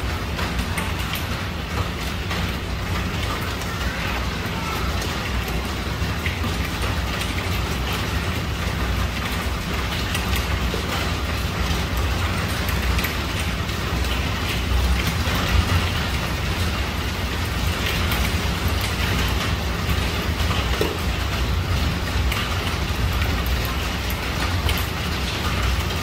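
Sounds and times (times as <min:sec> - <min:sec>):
hailstones ticking on tiles: 0:00.0 - 0:26.0
heavy rain on tiled roof: 0:00.0 - 0:26.0.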